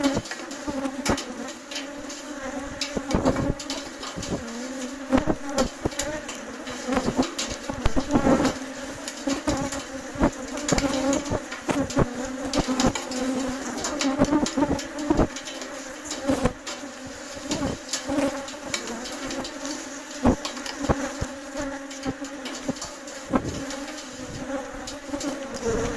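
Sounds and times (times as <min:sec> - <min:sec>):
bees buzzing: 0:00.0 - 0:25.9.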